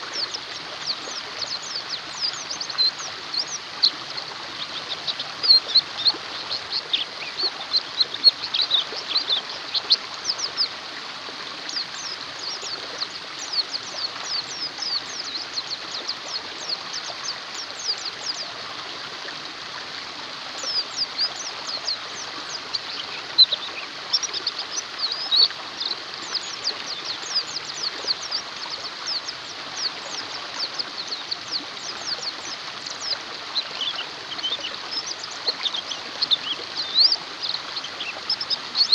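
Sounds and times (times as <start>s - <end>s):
birds twittering chirps: 0.0s - 10.8s, 11.5s - 18.6s, 20.5s - 38.9s
running water rushing: 0.0s - 38.9s.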